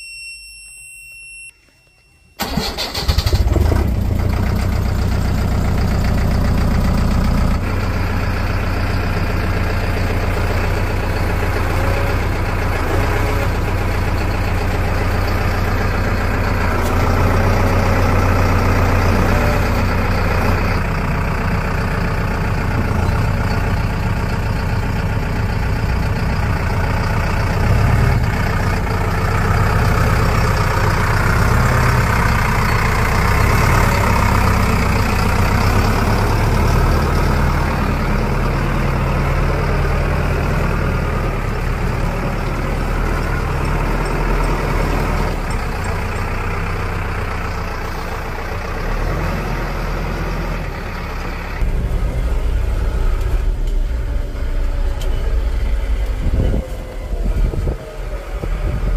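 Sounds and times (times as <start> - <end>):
heavy diesel engine revving: 2.4 - 58.9.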